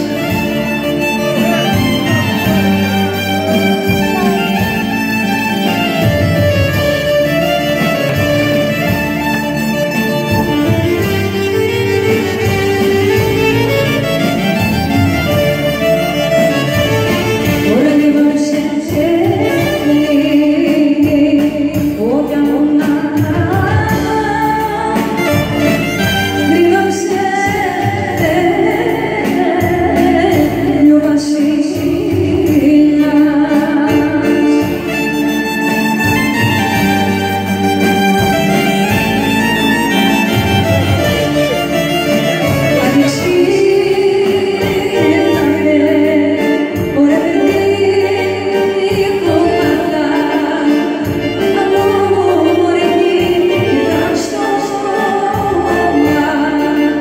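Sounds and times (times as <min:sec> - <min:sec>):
dance music on keyboard: 0:00.0 - 0:20.2, 0:23.5 - 0:28.6, 0:32.5 - 0:57.0
woman singing into microphone: 0:00.0 - 0:57.0.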